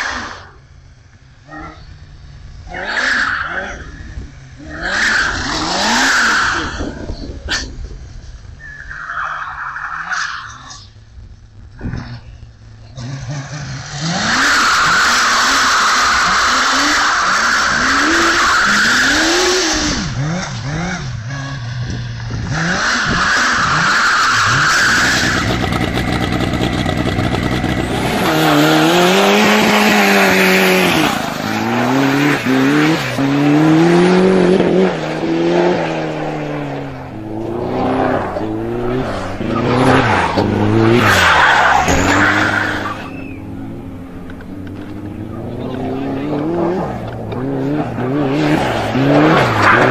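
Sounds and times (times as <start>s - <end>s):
go-kart engines revving: 0.0s - 11.1s, 11.8s - 49.9s.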